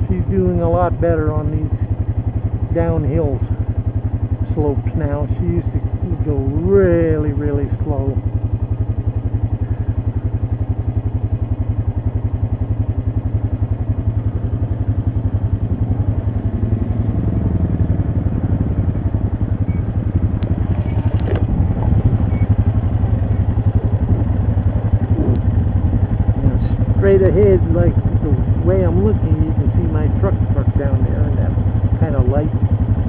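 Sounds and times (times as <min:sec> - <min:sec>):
atv coming down slope: 0:00.0 - 0:33.0
atv engine idling: 0:00.0 - 0:33.0.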